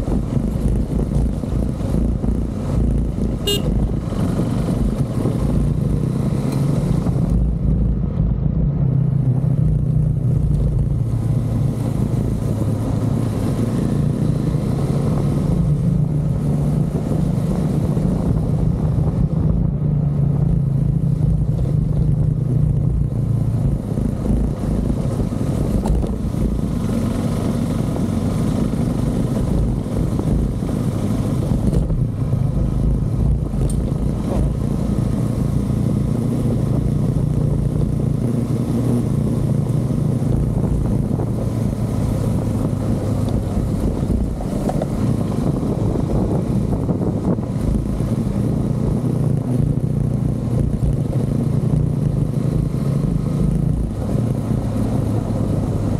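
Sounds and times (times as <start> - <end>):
motorcycle engine cruising: 0.0 - 55.9
road and wind noise: 0.0 - 55.9.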